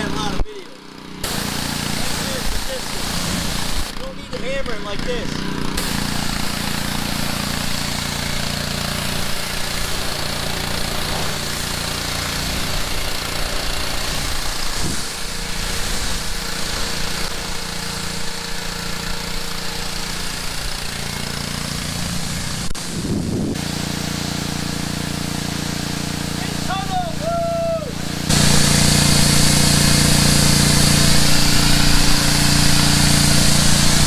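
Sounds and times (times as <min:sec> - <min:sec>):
pressure washer engine running: 0:00.0 - 0:34.0
water jet hissing on car: 0:01.2 - 0:05.2, 0:05.8 - 0:34.0.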